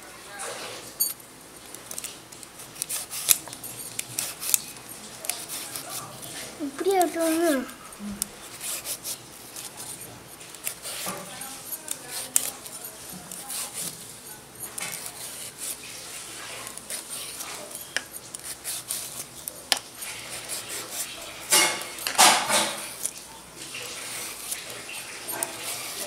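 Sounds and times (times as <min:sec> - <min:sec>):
peeler scraping banana peel: 0:01.9 - 0:23.2.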